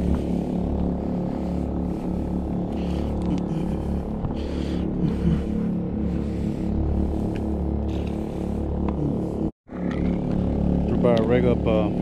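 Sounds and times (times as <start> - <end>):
generator engine drone: 0.0 - 12.0.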